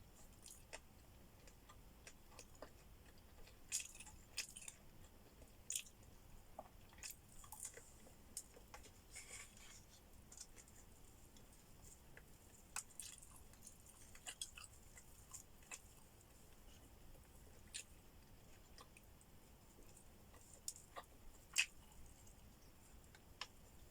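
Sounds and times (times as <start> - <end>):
person chewing food: 0.0 - 23.9.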